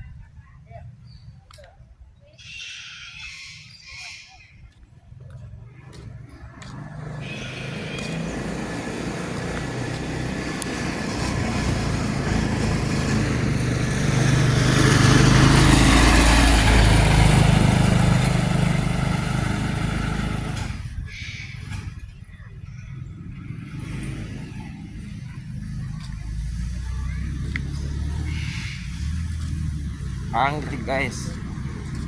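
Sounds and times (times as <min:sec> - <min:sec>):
vehicle engine passing by: 0:05.2 - 0:32.0.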